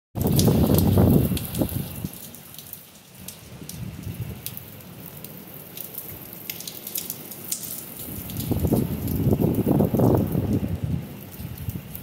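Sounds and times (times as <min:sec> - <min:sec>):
heavy rain: 0:00.2 - 0:12.0.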